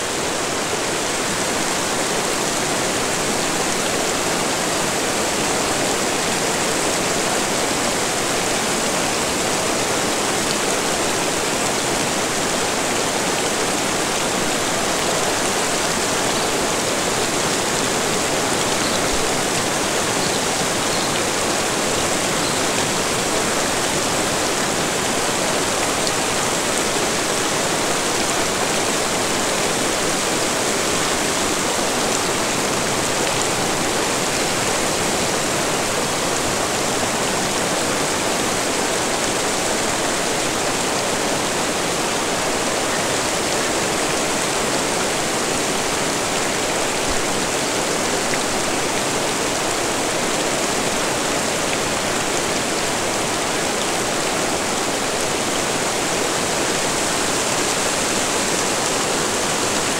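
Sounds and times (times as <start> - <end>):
waterfall pouring over rocks: 0.0 - 59.9.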